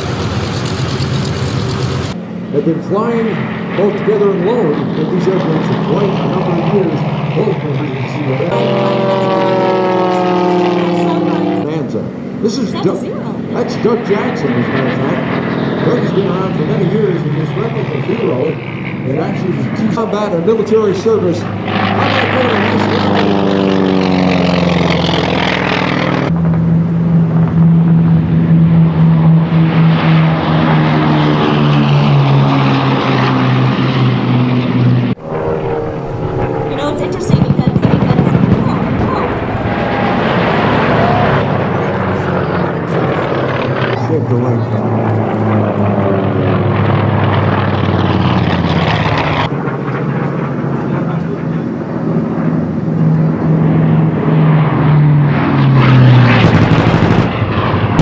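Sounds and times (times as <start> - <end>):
propeller aircraft flying past: 0.0 - 58.0
quieter different drone: 0.0 - 58.0.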